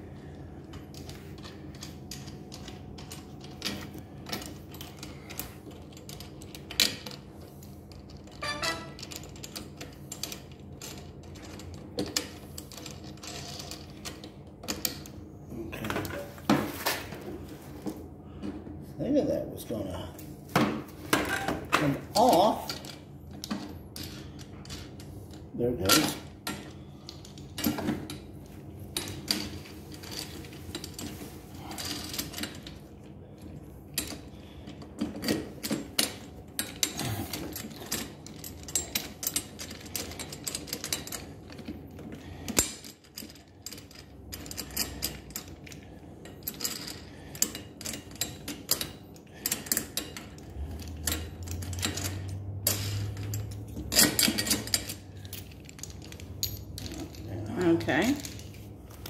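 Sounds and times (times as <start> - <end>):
metal tubes clicking and rattling: 0.2 - 17.2, 21.1 - 59.0.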